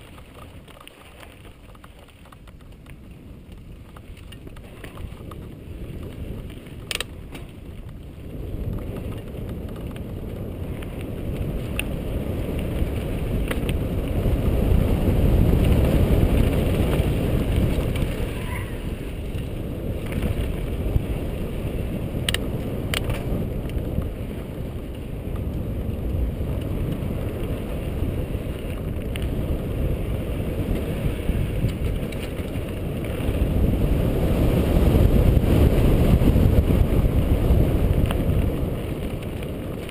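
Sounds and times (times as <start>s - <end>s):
bike clicks and knocks over rocks: 0.0s - 33.9s, 34.8s - 39.9s
bike tyres rolling on dirt: 0.0s - 39.9s
wind rumble on microphone: 0.0s - 39.9s.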